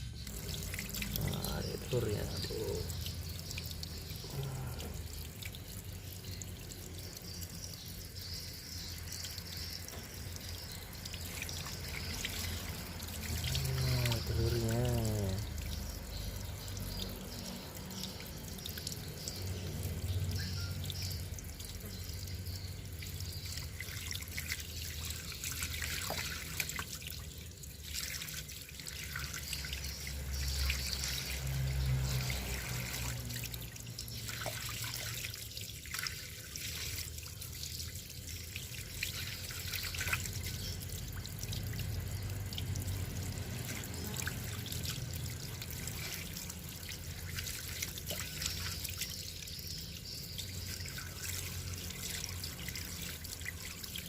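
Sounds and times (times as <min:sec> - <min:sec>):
water trickling and dripping: 0:00.0 - 0:54.0.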